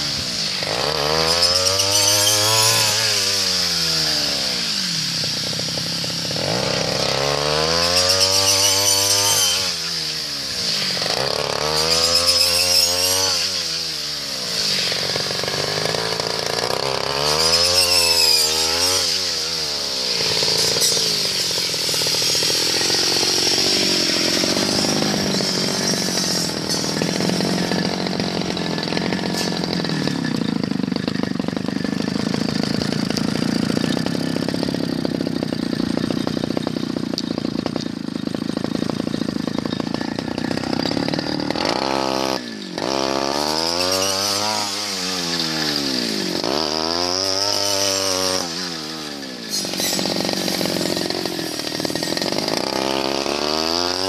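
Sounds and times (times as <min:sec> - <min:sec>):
brush cutter engine revving: 0:00.0 - 0:54.0.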